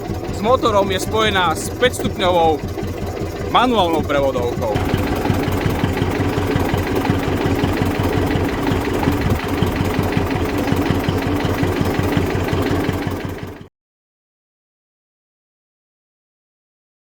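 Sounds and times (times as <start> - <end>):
diesel tractor engine running: 0.0 - 13.7.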